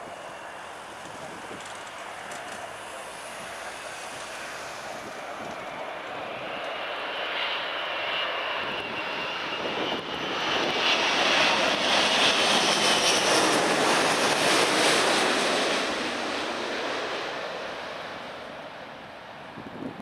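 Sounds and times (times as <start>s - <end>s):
jet airliner roar overhead: 0.0s - 20.0s.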